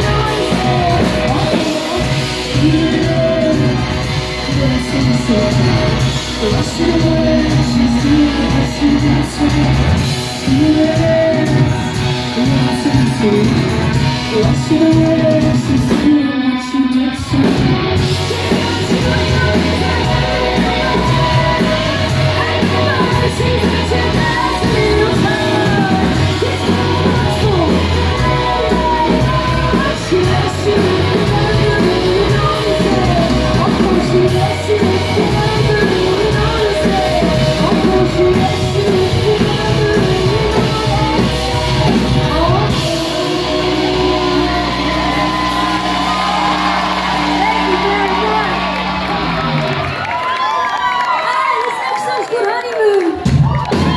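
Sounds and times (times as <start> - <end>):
woman singing: 0.0 - 48.9
live rock band: 0.0 - 53.9.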